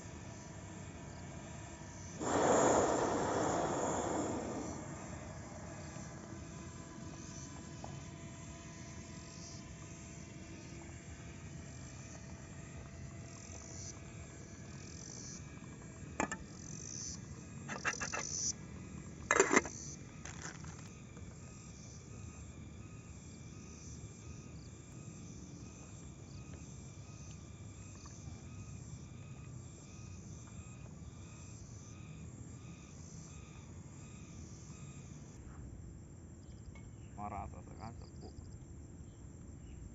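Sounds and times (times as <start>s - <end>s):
insects and frogs chorus: 0.0s - 35.6s, 36.4s - 39.9s.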